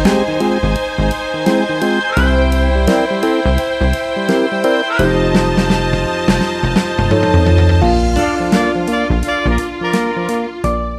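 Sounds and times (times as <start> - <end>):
upbeat background music: 0.0 - 10.9.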